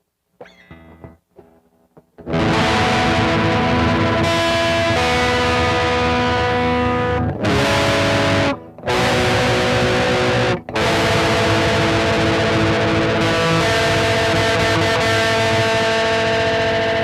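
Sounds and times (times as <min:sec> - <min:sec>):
distorted electric guitar chords: 0:02.2 - 0:17.0.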